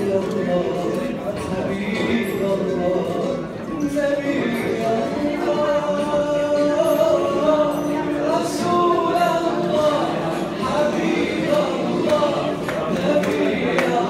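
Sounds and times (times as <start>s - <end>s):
man singing over loudspeakers: 0.0s - 14.0s.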